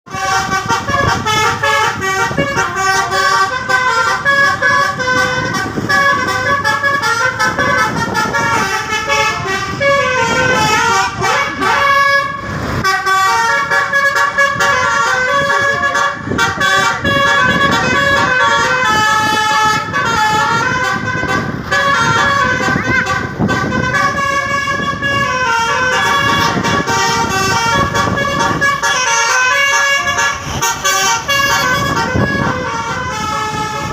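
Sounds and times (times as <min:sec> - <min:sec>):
musical bus air horn: 0:00.1 - 0:33.9
vehicle rumble: 0:00.1 - 0:33.9.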